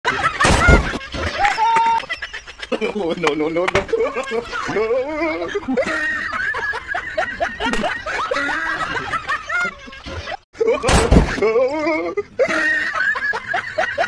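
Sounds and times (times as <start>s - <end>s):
person snickering and chuckling: 0.1s - 14.0s.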